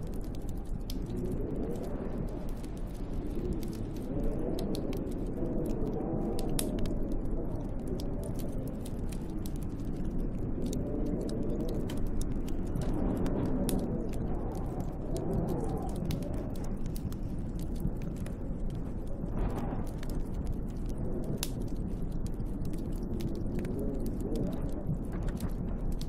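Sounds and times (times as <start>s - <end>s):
wind gusts: 0.0s - 26.0s
wood fire crackling: 0.0s - 26.0s.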